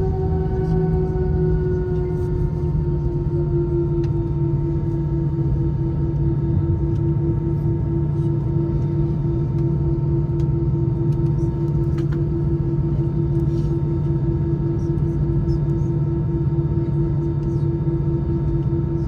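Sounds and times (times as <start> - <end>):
jet engine drone in cabin: 0.0 - 19.0.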